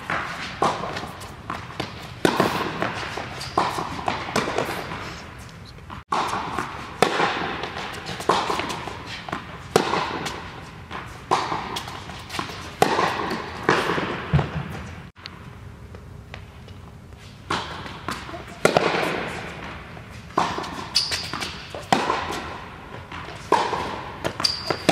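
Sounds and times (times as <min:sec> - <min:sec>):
tennis ball bounces: 0:00.0 - 0:05.0, 0:05.9 - 0:14.8, 0:17.5 - 0:24.9
tennis racket strikes: 0:00.0 - 0:05.2, 0:06.1 - 0:14.9, 0:17.4 - 0:24.9.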